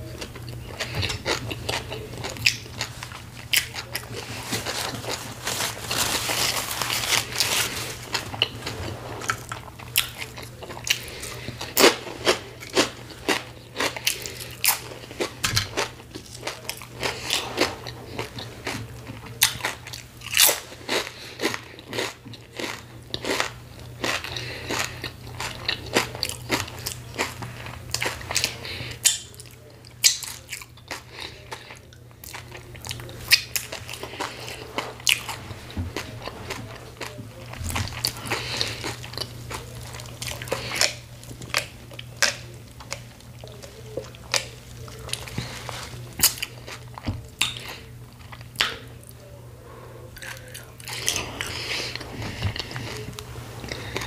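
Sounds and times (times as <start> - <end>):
crunching potato chips: 0.0 - 49.1, 50.2 - 54.0.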